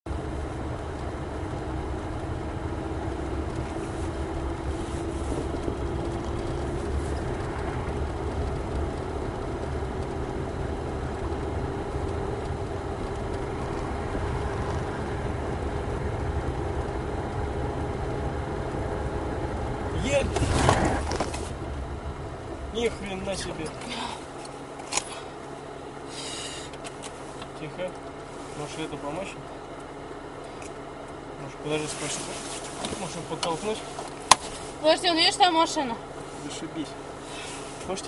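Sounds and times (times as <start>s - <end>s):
vehicle road and engine rumble: 0.0s - 38.0s.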